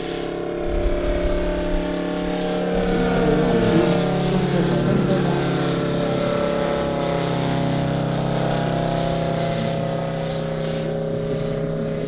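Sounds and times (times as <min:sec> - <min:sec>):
radial engine running in flight: 0:00.0 - 0:12.0.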